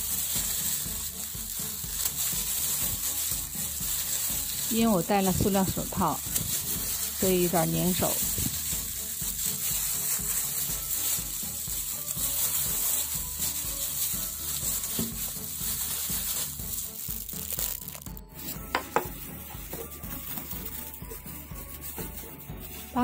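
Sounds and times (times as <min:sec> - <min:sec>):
hands kneading dough rustling: 0:00.0 - 0:23.0.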